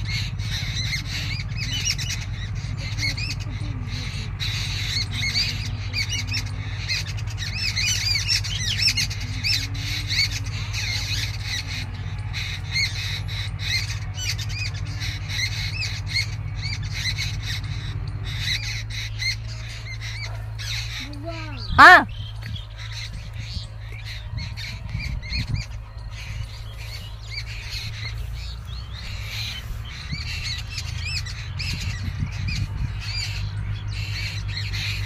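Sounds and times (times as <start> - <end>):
birds chirping and squawking: 0.0 - 35.0.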